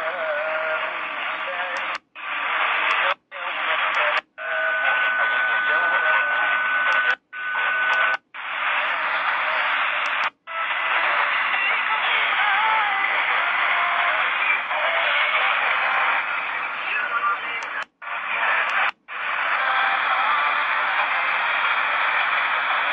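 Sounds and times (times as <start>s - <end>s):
faint wavering radio voices: 0.0s - 22.9s
radio static hiss: 0.0s - 22.9s.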